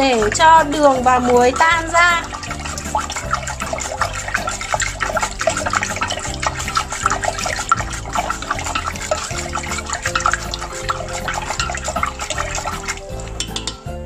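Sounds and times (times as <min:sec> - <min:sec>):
spoon clinking: 0:00.0 - 0:13.9
water swirling in a pot: 0:00.0 - 0:14.0.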